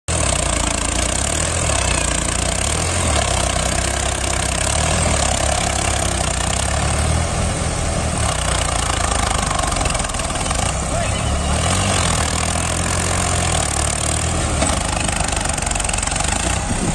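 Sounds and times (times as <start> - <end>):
diesel tractor engines running: 0.1 - 16.9.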